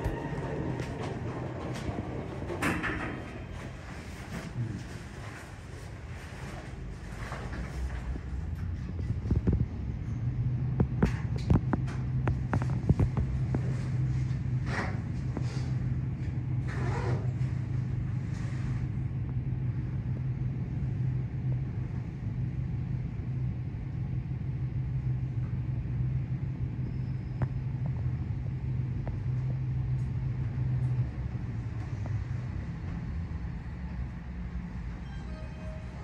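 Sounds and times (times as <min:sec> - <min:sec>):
elevator hum and rumble: 0:00.0 - 0:36.0.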